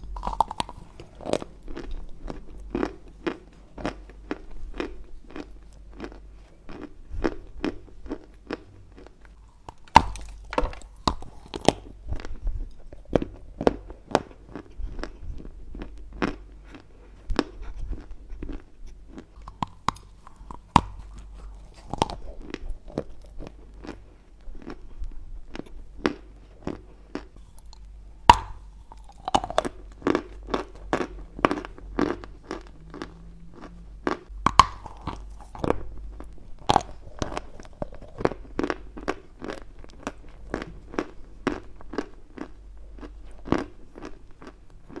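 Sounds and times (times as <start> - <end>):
crunching and chewing chalk: 0.0 - 45.0.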